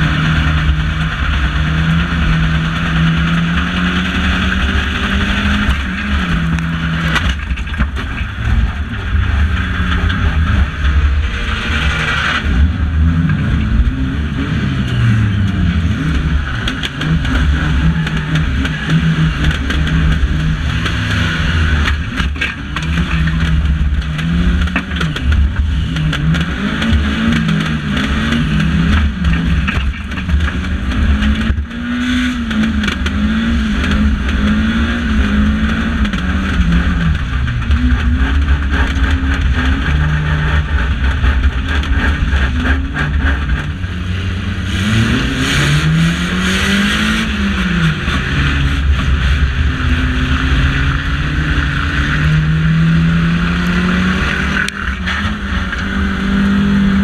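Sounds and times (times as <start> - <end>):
car knocks and rattles: 0.0 - 14.0, 14.9 - 57.0
car engine revving: 0.0 - 57.0.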